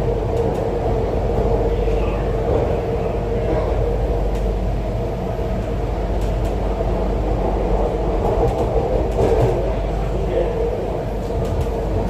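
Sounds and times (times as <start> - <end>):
metro train running rumble: 0.0 - 12.0.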